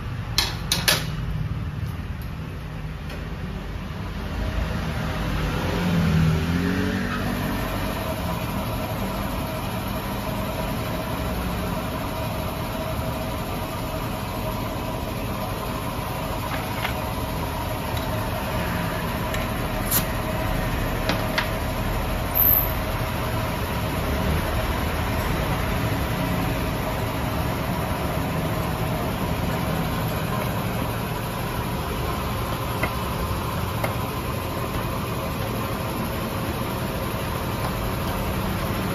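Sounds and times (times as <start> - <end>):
mechanical hum with faint tones: 0.0 - 38.9.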